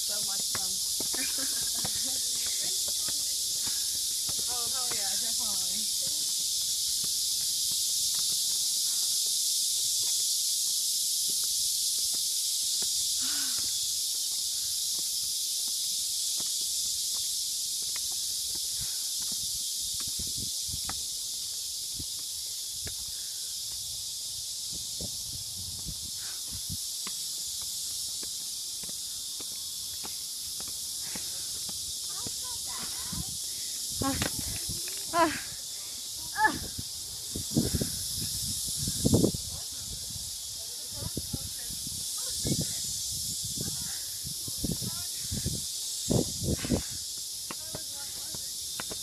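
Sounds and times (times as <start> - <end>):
footsteps on stone steps: 0.0 - 23.9, 24.6 - 39.4, 45.5 - 49.0
insect chorus droning: 0.0 - 49.0.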